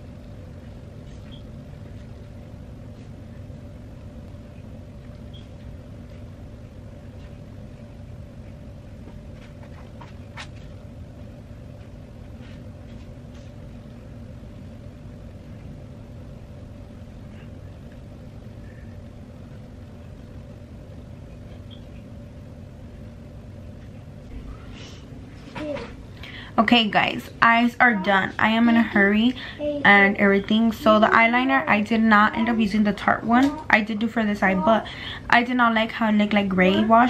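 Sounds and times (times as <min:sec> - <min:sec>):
faint constant tone: 0:00.0 - 0:37.0
low hum: 0:00.0 - 0:37.0.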